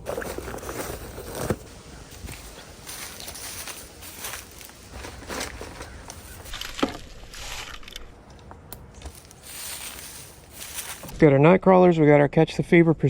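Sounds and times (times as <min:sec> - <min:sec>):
rustling and scuffing of gear: 0:00.0 - 0:11.2.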